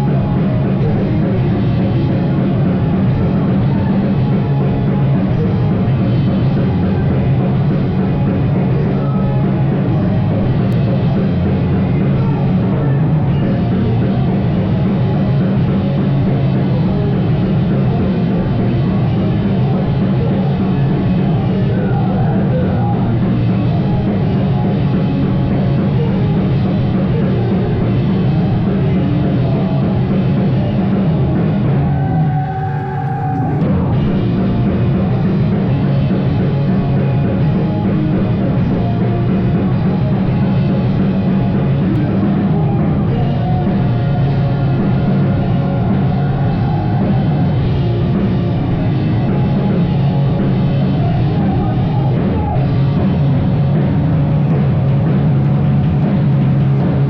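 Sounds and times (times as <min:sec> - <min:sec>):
band playing rock music: 0:00.0 - 0:57.0.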